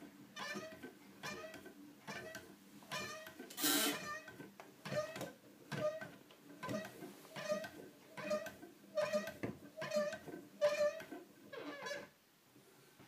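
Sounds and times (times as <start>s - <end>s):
squeaking crank mechanism: 0.4s - 12.1s.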